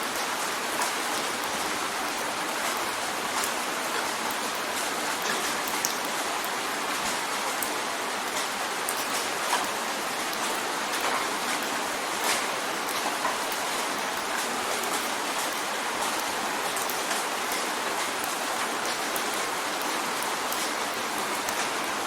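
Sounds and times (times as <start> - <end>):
rain drumming on a window: 0.0 - 22.0
raindrops ticking on glass: 0.2 - 22.0.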